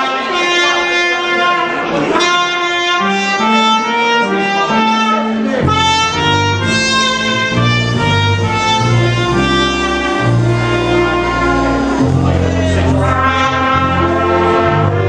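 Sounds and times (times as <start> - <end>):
bass line: 0.0 - 15.0
jazz band with brass horns: 0.0 - 15.0.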